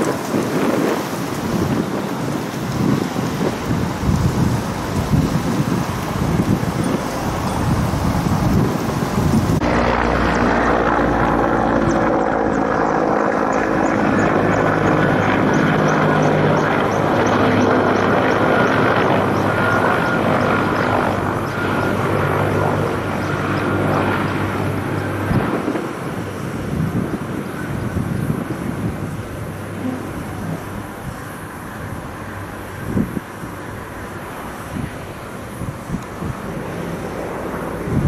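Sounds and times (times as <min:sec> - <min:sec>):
helicopter engine and rotor drone: 0:00.0 - 0:38.0.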